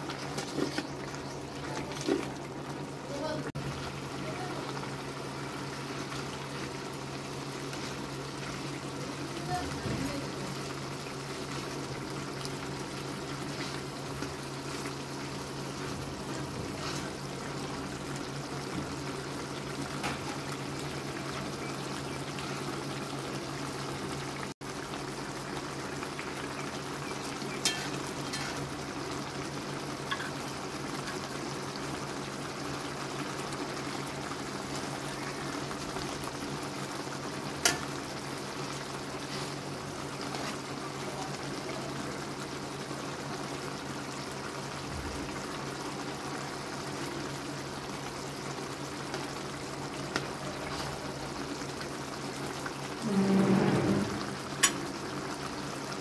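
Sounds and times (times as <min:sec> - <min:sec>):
gravy bubbling in a pan: 0:00.0 - 0:56.0.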